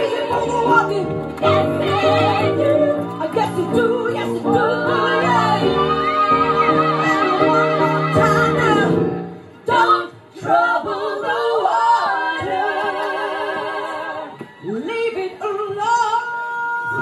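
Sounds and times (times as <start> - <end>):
gospel-style singing: 0.0 - 17.0.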